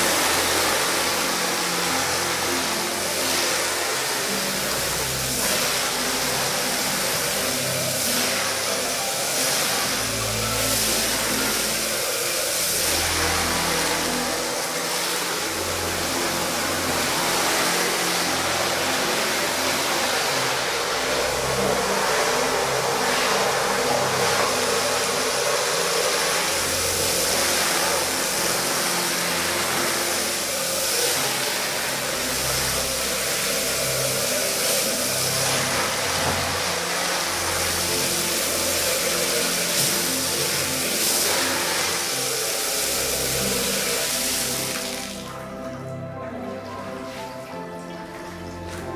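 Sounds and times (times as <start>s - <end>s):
water spray hissing: 0.0s - 45.6s
pressure washer humming: 0.0s - 46.1s.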